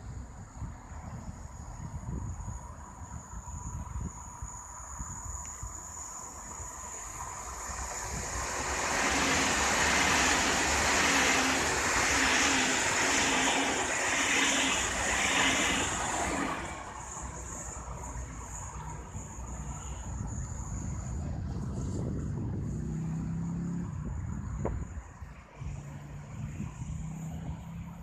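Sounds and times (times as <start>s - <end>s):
train passing: 3.1s - 28.0s.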